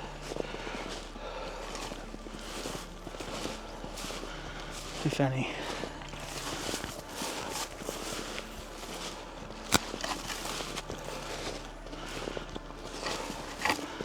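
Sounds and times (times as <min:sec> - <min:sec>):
footsteps climbing a slope: 0:00.0 - 0:14.0.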